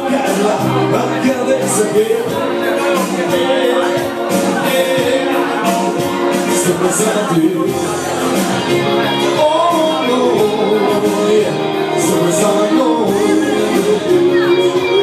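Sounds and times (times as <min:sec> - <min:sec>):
keyboard: 0:00.0 - 0:15.0
live band playing: 0:00.0 - 0:15.0
person singing: 0:00.0 - 0:15.0.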